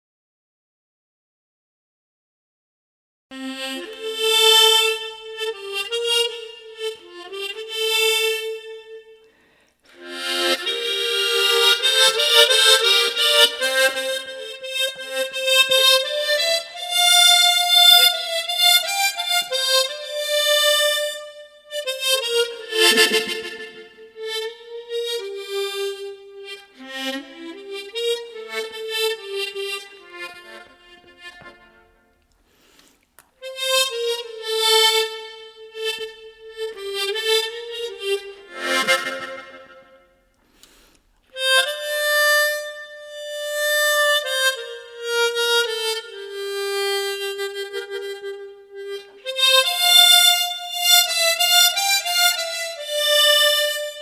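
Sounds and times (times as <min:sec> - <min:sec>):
tremolo harmonica melody: 0:03.3 - 0:54.0.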